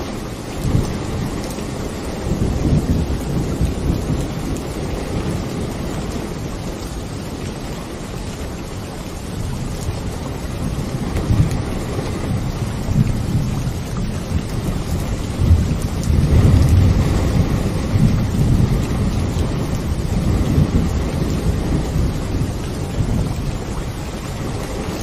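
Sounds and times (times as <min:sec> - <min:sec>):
low rumble of thunder: 0:00.0 - 0:25.0
steady rain: 0:00.0 - 0:25.0.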